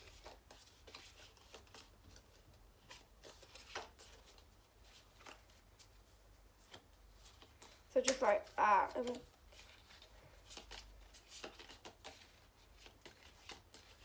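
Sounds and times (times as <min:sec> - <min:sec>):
trading cards rustling and clicking: 0:00.0 - 0:14.0.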